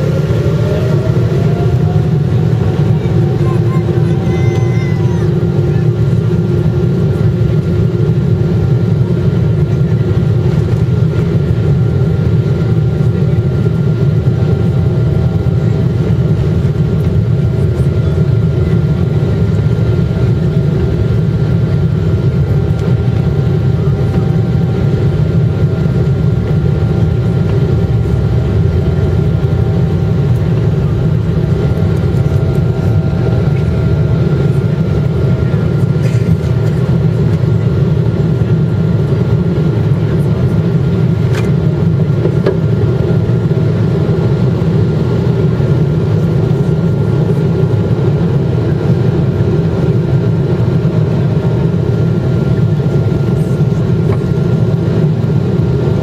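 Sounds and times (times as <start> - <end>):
faint engine whine: 0.0 - 56.0
jet engines deep rumble: 0.0 - 56.0.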